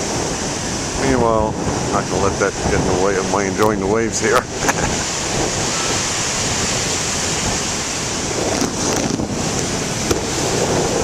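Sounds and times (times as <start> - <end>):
ocean waves breaking: 0.0 - 11.0
wind on microphone: 0.0 - 11.0.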